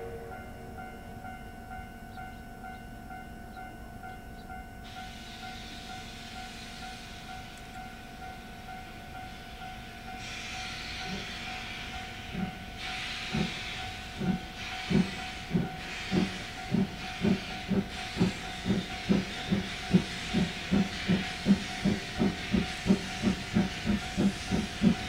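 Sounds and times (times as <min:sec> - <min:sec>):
steam locomotive chuffing: 0:04.8 - 0:25.0
steam hissing: 0:04.9 - 0:25.0.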